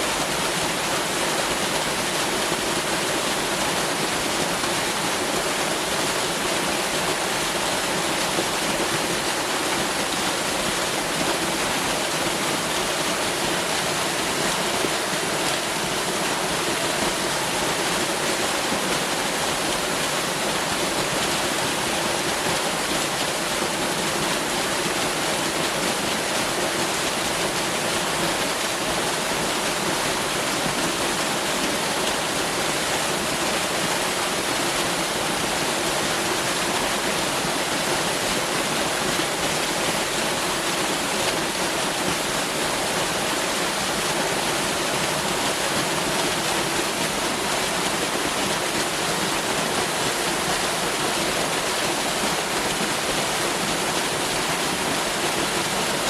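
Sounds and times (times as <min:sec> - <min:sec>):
waterfall pouring: 0:00.1 - 0:56.0.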